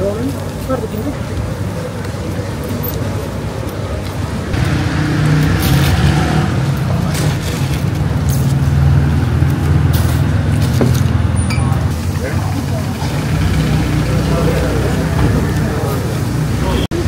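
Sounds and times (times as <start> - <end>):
city traffic: 0.0 - 17.0
vehicle engine running close: 3.2 - 17.0.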